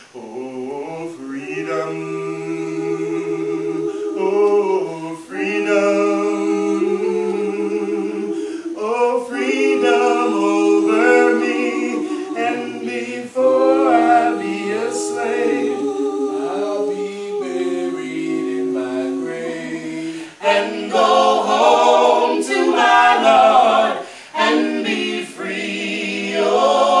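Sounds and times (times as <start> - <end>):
group singing a cappella: 0.0 - 27.0.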